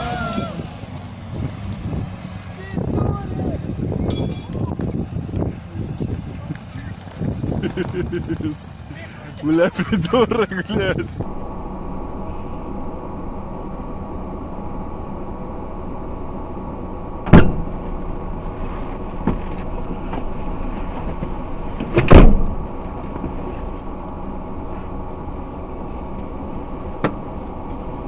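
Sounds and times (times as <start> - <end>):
vehicle engine running: 0.3 - 28.0.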